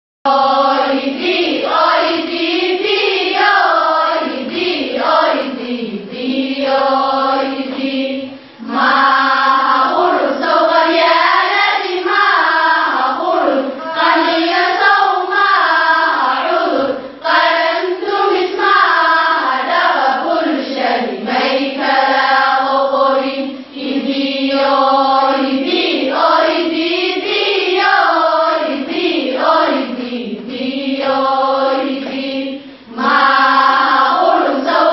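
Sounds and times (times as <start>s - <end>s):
girls singing in unison: 0.3s - 34.9s.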